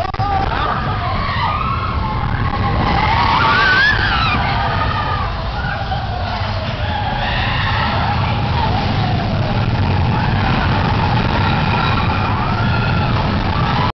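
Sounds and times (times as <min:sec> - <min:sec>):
roller coaster rumbling on track: 0:00.0 - 0:13.9
high wavering wails: 0:00.6 - 0:13.9.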